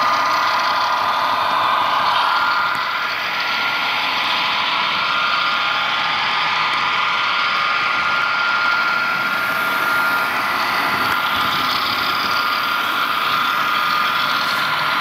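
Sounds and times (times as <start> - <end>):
diesel engine sound from speaker: 0.0 - 15.0.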